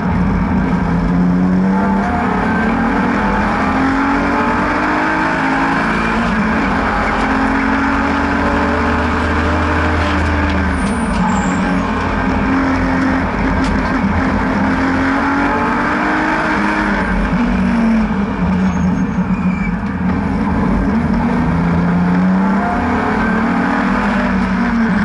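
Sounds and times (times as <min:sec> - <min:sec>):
car engine accelerating: 0:00.0 - 0:25.0
wind and tyre noise: 0:00.0 - 0:25.0.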